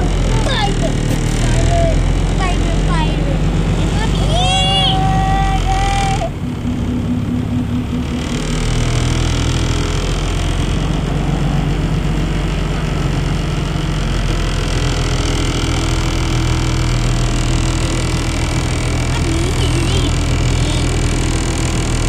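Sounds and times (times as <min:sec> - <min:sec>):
boat diesel engine drone: 0:00.0 - 0:22.0.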